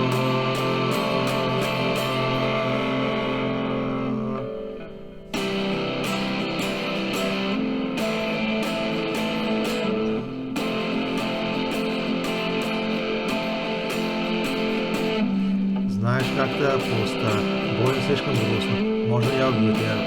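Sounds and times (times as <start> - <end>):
rock guitar: 0.0 - 20.0.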